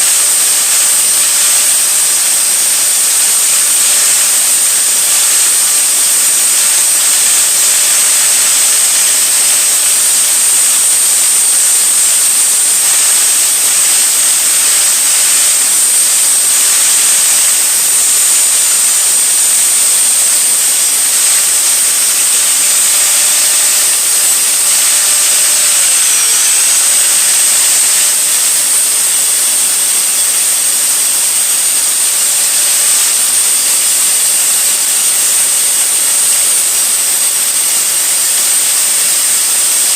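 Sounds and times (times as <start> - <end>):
electric grinder sharpening blade: 0.0 - 39.9.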